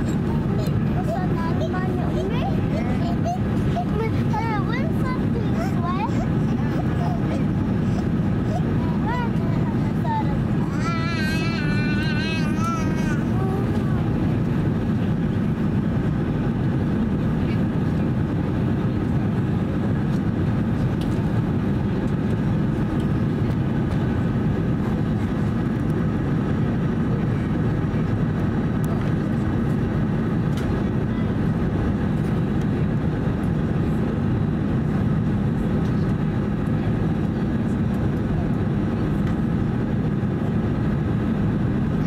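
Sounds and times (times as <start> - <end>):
airliner cabin engine rumble: 0.0 - 42.0.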